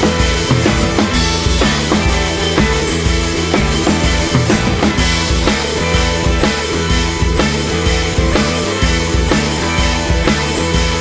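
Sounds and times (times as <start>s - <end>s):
upbeat music with drum beat: 0.0s - 11.0s.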